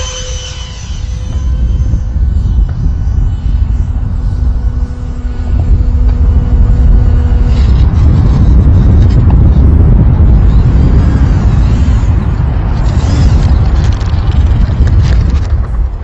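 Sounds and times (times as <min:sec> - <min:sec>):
electric ducted fans humming: 0:00.0 - 0:16.0
wind rumble on microphone: 0:00.0 - 0:16.0.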